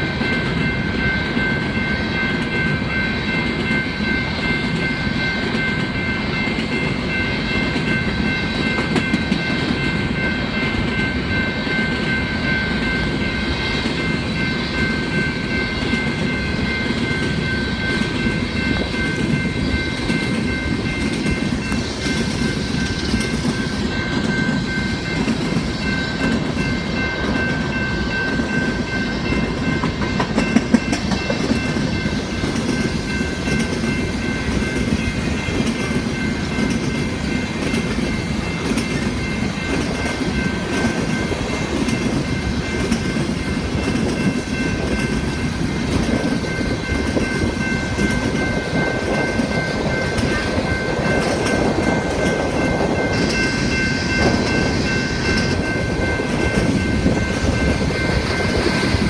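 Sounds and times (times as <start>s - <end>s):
high ringing tones: 0.0s - 59.0s
steel wheels rumbling on rail: 0.0s - 59.0s
wheels clickety-clack over rail joints: 0.0s - 59.0s.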